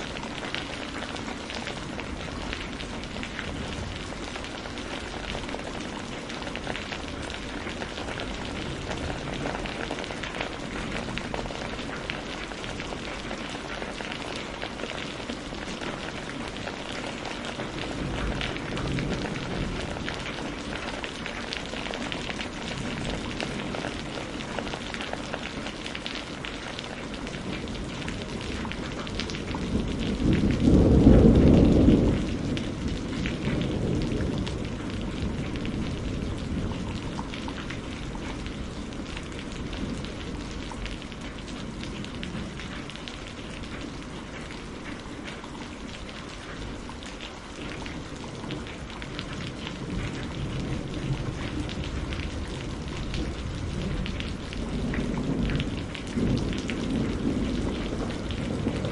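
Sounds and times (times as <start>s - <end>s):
low rumble of thunder: 0.0s - 58.9s
steady rain falling: 0.0s - 58.9s.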